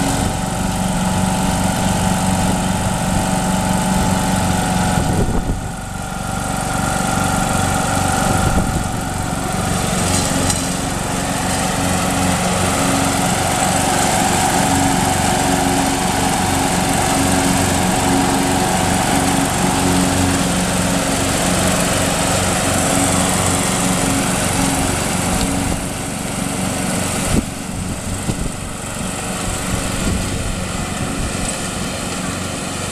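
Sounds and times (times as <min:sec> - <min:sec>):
lawn tractor engine running: 0:00.0 - 0:32.9.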